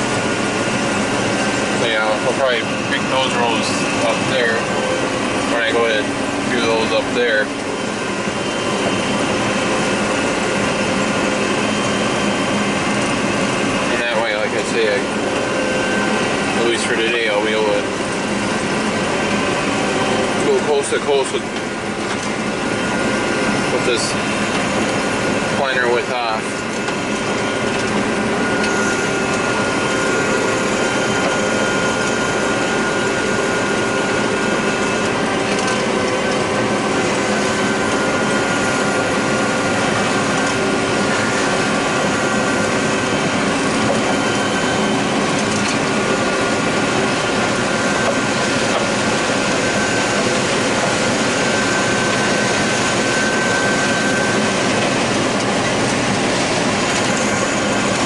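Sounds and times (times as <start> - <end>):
combine harvester drone: 0.0 - 58.0
machine whining tones: 0.0 - 58.0.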